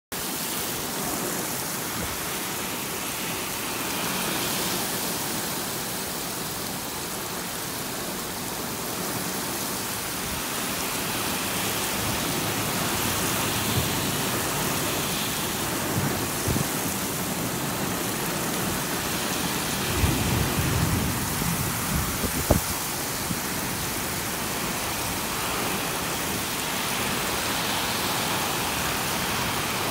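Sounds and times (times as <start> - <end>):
heavy rain pouring: 0.1 - 29.9.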